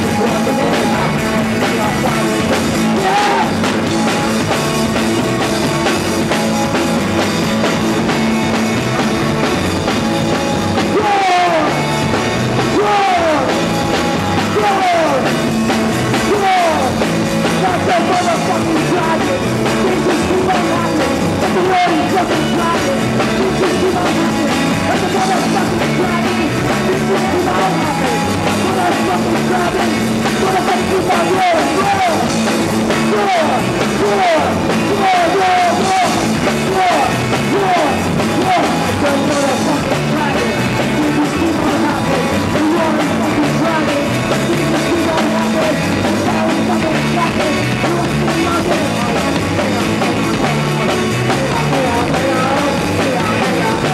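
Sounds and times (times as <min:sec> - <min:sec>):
live rock band playing: 0:00.0 - 0:53.9
person singing: 0:00.0 - 0:53.9.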